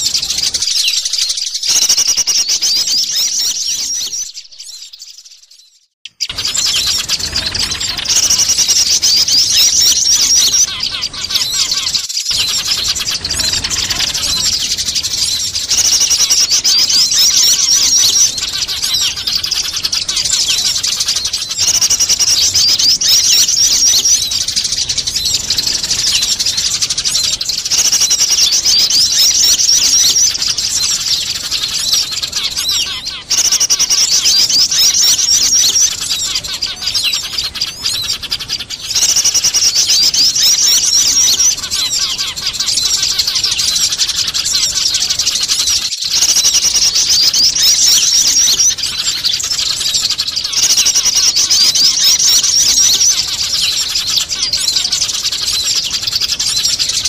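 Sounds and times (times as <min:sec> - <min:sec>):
small birds calling: 0:00.0 - 0:57.0
sparrows chirping: 0:00.0 - 0:57.0.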